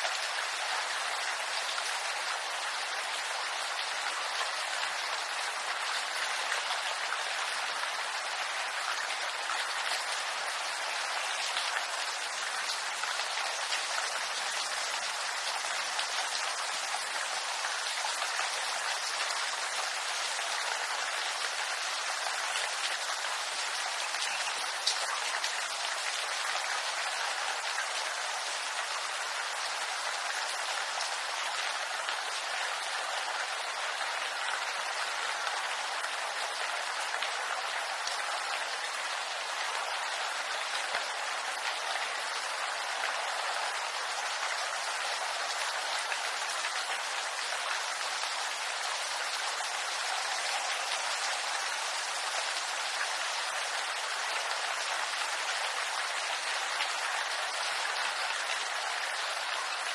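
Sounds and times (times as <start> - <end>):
rain falling on bamboo: 0.0 - 59.9.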